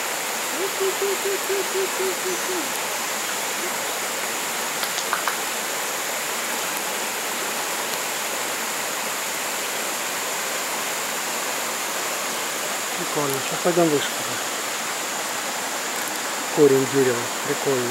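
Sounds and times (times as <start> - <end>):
stream and waterfall rushing: 0.0 - 17.9.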